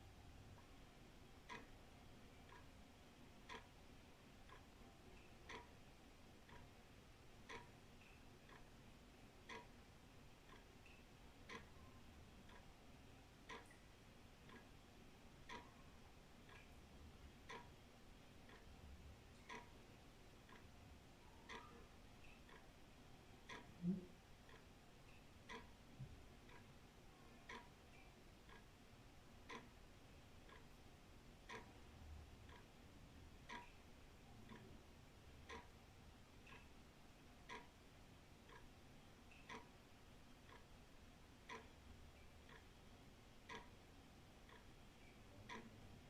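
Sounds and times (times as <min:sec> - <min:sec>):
faint low rumble: 0:00.0 - 0:39.7
wall clock ticking: 0:00.0 - 0:46.0.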